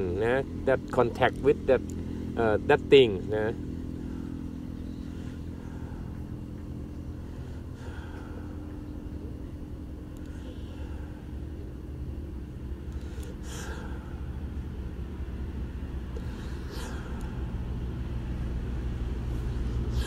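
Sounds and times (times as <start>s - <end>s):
faint constant hum: 0.0s - 20.0s
low background rumble: 0.0s - 20.0s.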